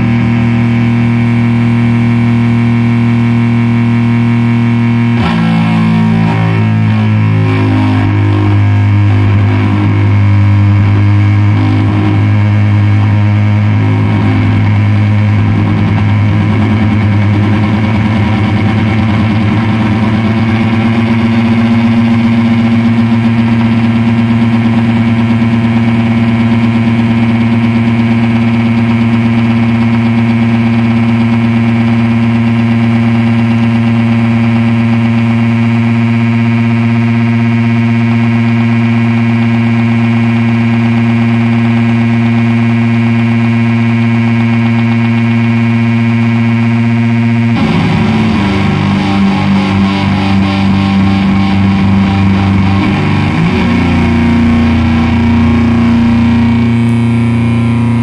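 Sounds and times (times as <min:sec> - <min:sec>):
heavily fuzzed electric guitar: 0:00.0 - 0:58.0.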